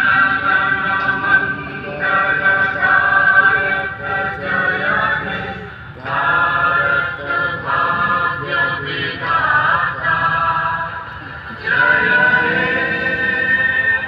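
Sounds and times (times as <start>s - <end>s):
voices singing long notes: 0.0s - 14.0s.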